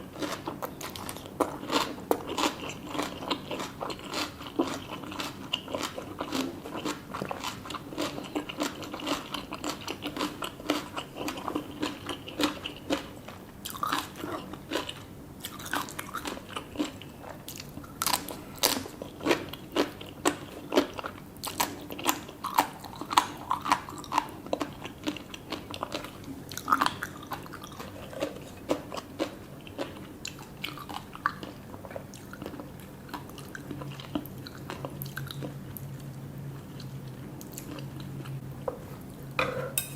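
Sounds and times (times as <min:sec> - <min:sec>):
crunchy chewing: 0:00.1 - 0:38.4.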